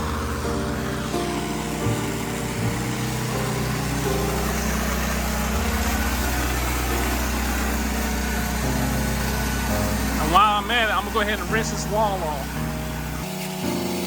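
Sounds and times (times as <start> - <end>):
pressure washer engine running: 0.0 - 14.0
water spray hissing: 0.0 - 14.0.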